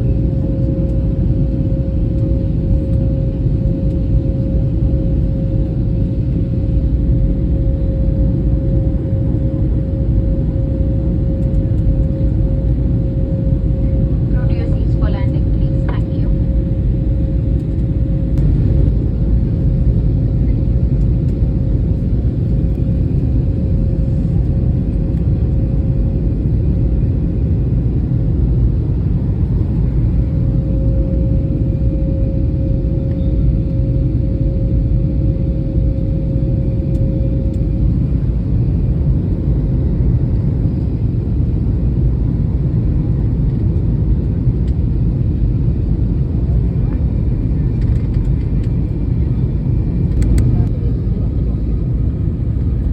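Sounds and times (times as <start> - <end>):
airliner engine and airflow rumble: 0.0 - 52.9.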